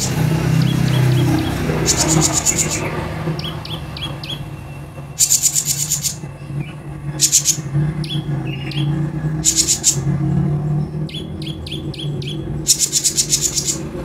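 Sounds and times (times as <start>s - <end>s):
bird buzzy trill: 0.0s - 10.2s, 11.0s - 14.0s
bird chip notes: 0.0s - 10.2s, 10.8s - 14.0s.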